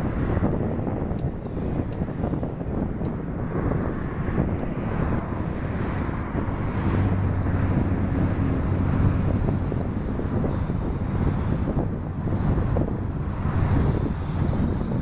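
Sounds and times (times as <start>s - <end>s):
jet engine rumble: 0.0s - 15.0s
wind buffeting microphone: 0.0s - 15.0s.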